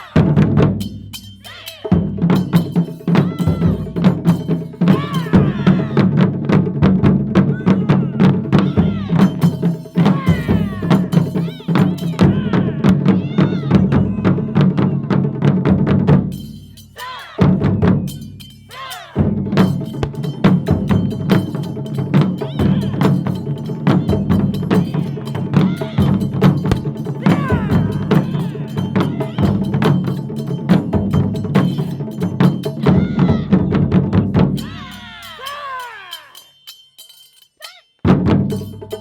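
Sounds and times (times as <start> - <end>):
taiko drums playing: 0.0 - 16.8, 17.4 - 35.2, 38.0 - 39.0.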